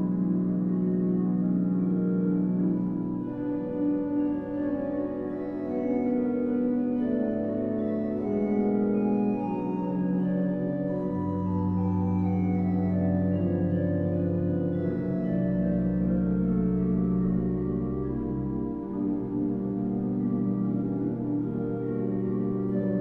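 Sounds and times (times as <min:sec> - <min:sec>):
pipe organ playing held chords: 0:00.0 - 0:23.0.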